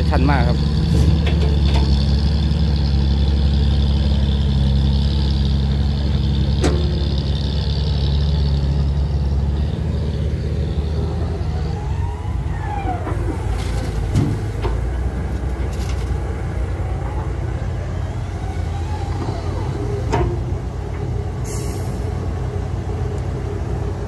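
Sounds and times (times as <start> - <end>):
diesel truck engine under load: 0.0 - 24.0.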